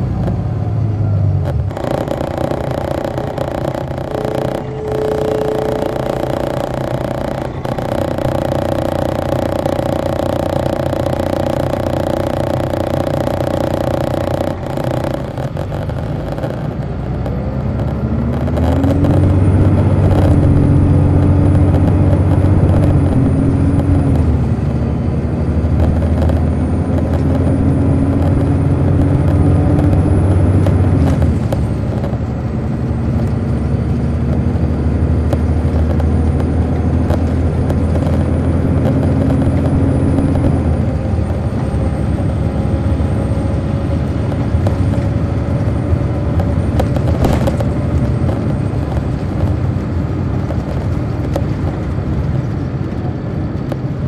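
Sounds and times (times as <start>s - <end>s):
bus diesel engine accelerating: 0.0s - 54.0s.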